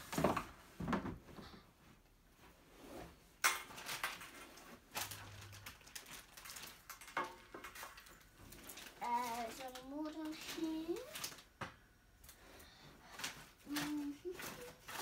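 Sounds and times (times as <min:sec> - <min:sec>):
rustling: 0:00.0 - 0:11.6, 0:12.2 - 0:15.0.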